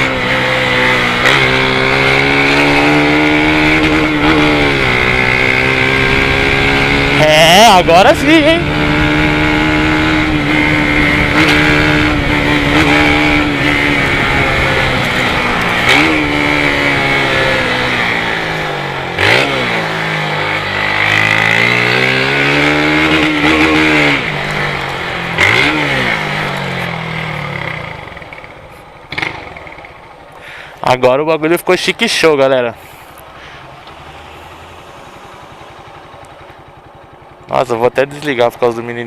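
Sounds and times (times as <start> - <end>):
motorcycle engine revving: 0.0 - 30.7, 31.4 - 39.0.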